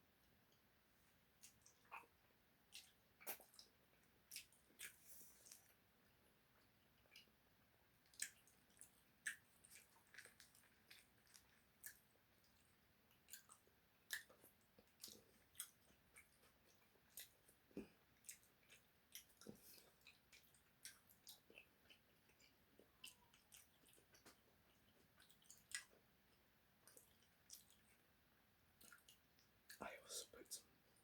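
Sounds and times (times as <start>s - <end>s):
person chewing food: 0.5s - 29.8s.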